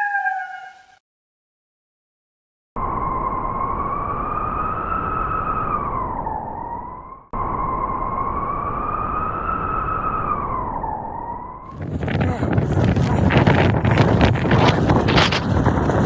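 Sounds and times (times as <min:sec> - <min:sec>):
blizzard wind howling: 0:02.8 - 0:16.0.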